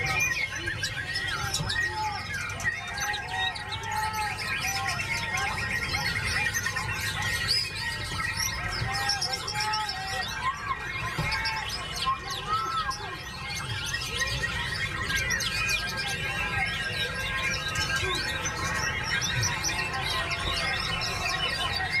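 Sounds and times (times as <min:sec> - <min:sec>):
chorus of songbirds: 0:00.0 - 0:22.0.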